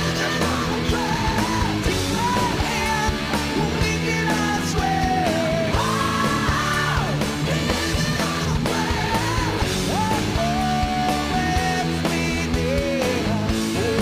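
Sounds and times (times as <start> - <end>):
drums: 0.0 - 14.0
rock song with singing: 0.0 - 14.0.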